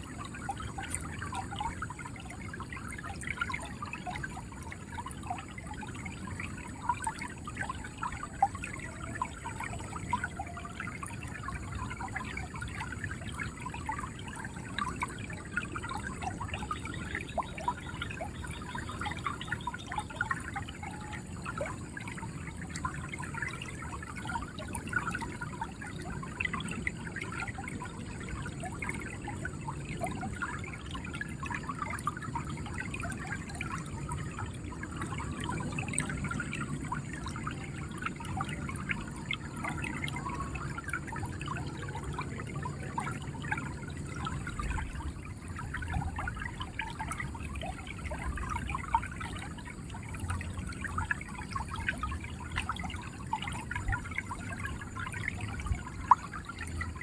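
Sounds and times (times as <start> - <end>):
river water gurgling: 0.0 - 57.0.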